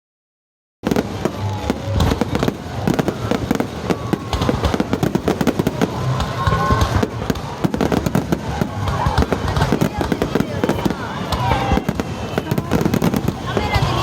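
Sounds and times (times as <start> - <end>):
fireworks crackling pops: 0.8 - 14.0.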